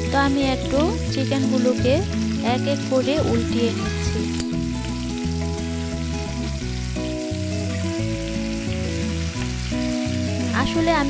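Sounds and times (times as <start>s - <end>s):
background music: 0.0s - 11.0s
chicken sizzling in oil: 0.0s - 11.0s.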